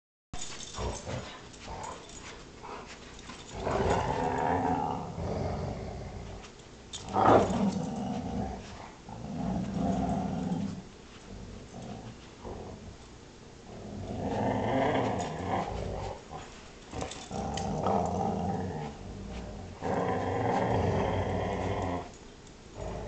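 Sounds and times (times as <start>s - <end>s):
dogs growling: 3.4s - 13.0s, 13.7s - 23.0s.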